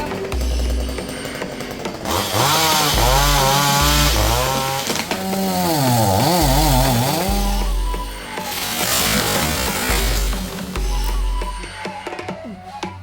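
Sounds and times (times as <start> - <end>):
chainsaw revving: 0.0 - 11.6.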